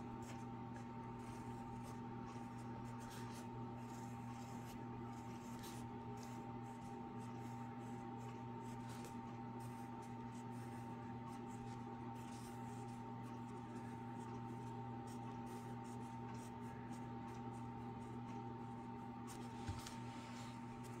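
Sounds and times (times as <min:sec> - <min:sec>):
low electrical hum: 0:00.0 - 0:21.0
pencil scratching on paper: 0:00.2 - 0:21.0.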